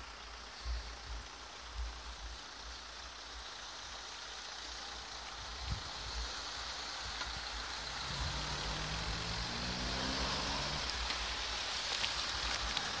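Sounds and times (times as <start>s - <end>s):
tyre and traffic hiss: 0.0s - 13.0s
vehicle engine hum: 0.0s - 13.0s.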